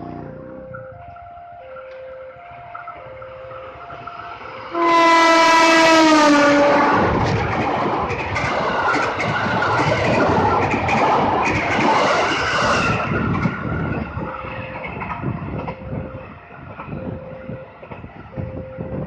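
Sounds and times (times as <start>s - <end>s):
train wheels clattering on rails: 0.7s - 19.0s.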